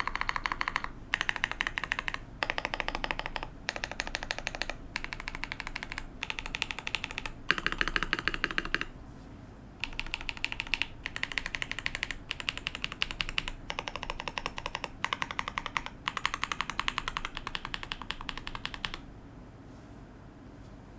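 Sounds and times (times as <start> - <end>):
mechanical keyboard typing: 0.0 - 8.9, 9.8 - 19.1.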